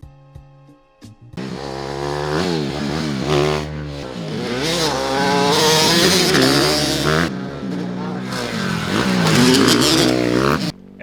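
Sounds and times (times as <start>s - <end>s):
small engine revving: 1.4s - 10.8s.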